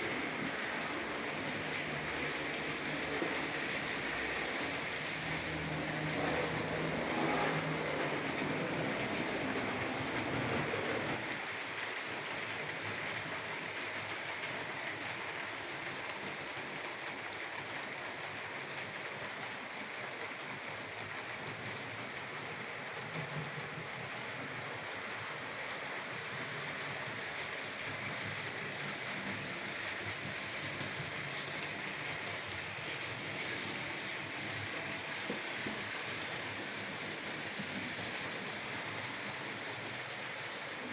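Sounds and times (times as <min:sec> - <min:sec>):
model trains rolling and whirring: 0:00.0 - 0:40.9.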